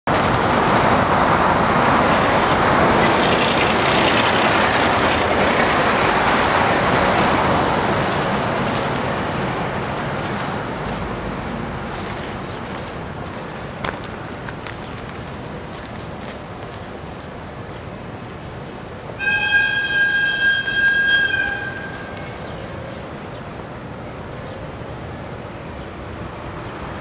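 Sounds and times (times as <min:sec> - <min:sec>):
trucks and cars passing: 0:00.1 - 0:27.0.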